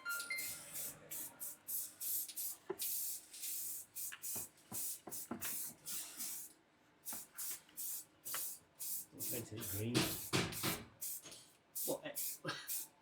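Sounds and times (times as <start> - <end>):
spray paint hissing bursts: 0.4 - 12.9.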